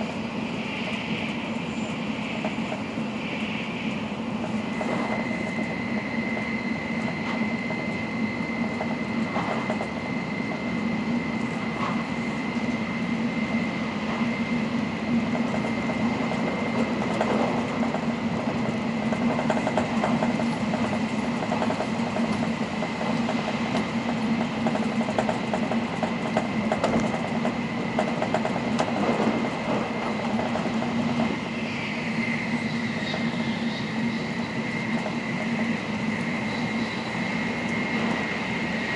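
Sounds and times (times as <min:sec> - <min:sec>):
constant high whine: 0:00.0 - 0:38.9
train interior low rumble: 0:00.0 - 0:38.9.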